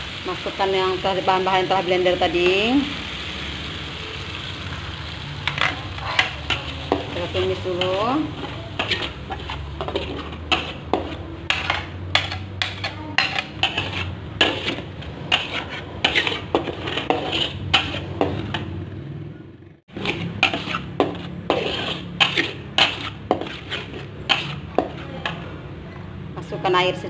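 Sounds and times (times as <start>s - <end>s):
metal spatula scraping a wok: 0.2s - 18.9s, 19.9s - 25.6s.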